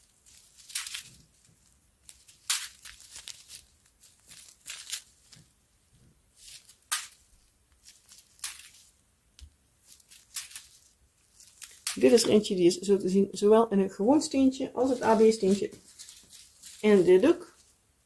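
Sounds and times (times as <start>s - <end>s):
small plastic bags crinkling: 0.0s - 5.6s, 6.4s - 12.4s, 14.7s - 17.7s.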